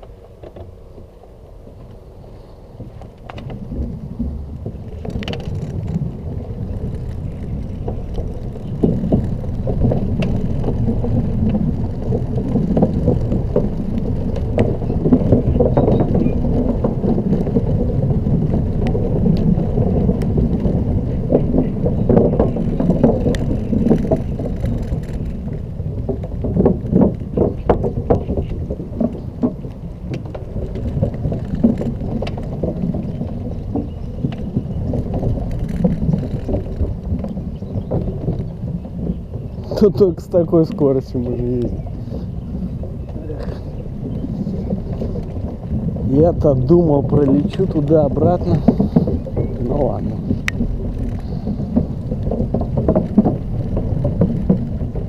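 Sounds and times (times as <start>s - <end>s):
scooter wind and road rumble: 0.0s - 55.0s
scooter rattling and knocking: 2.8s - 55.0s.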